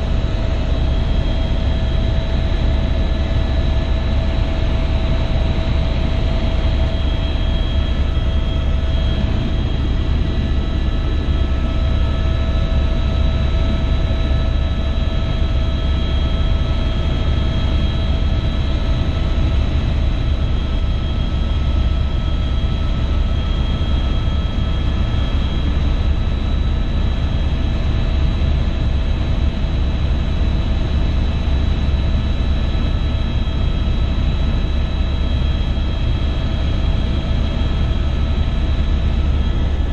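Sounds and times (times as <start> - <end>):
helicopter rotor and engine drone: 0.0 - 39.9
turbine whine: 0.0 - 39.9.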